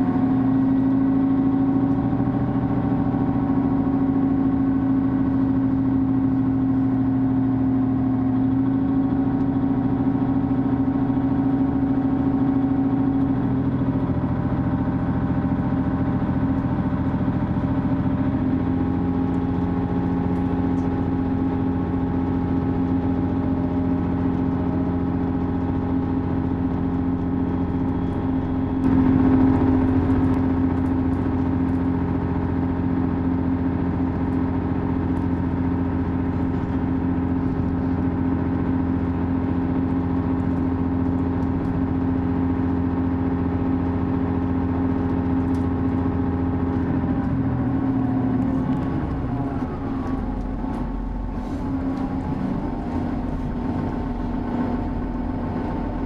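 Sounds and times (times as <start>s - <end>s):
diesel engine hum: 0.0s - 56.0s
wheel and rail rumble: 0.0s - 56.0s.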